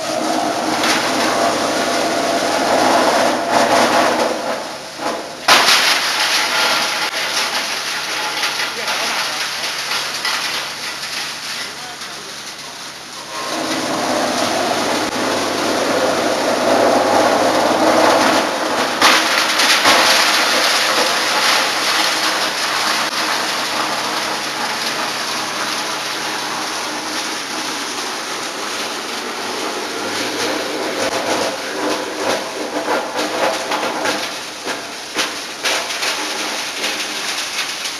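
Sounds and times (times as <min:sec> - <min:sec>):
steady machine hum: 0:00.0 - 0:37.6
sawdust machine grinding wood: 0:00.0 - 0:37.9.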